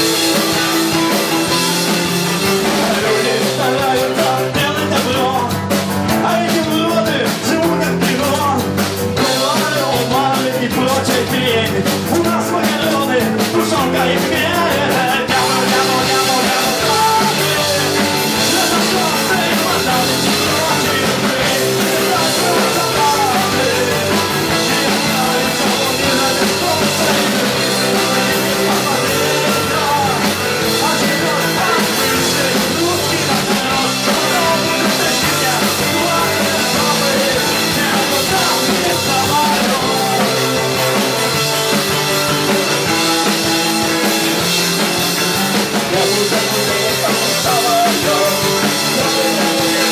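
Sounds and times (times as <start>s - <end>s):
drum kit beat: 0.0s - 49.9s
rock band playing live: 0.0s - 49.9s.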